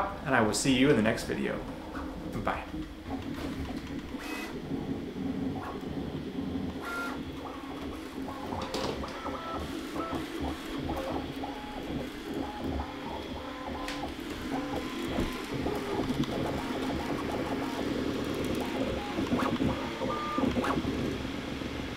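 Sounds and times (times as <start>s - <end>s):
stepper motors whining: 1.0s - 21.8s.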